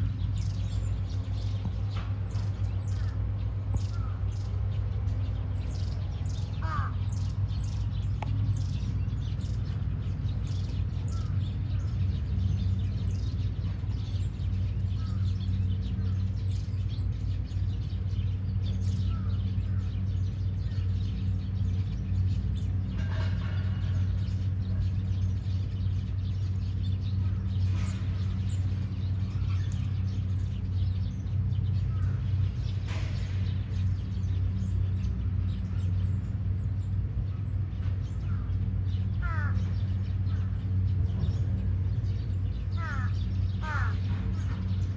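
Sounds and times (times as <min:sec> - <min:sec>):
small birds chirping: 0:00.0 - 0:44.9
steady low hum: 0:00.0 - 0:44.9.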